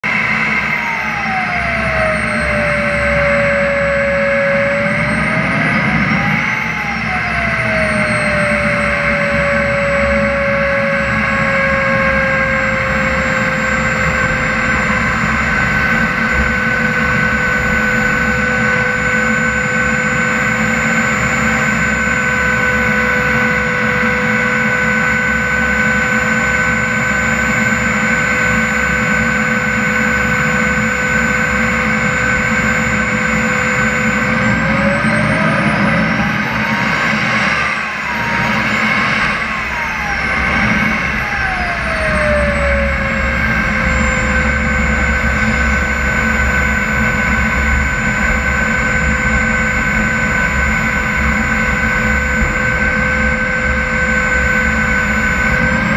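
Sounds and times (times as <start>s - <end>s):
model jet turbine whine: 0.0s - 55.9s.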